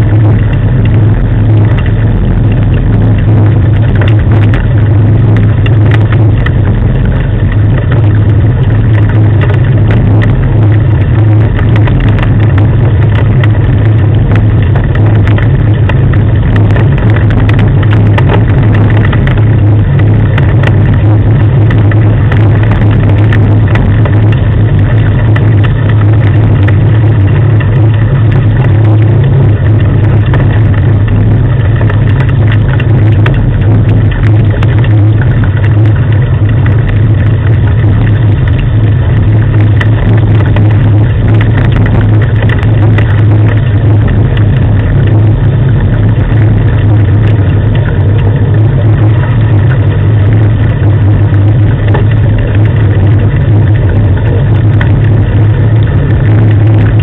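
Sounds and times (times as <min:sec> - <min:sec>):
rig rumbling along a road: 0:00.0 - 0:57.0.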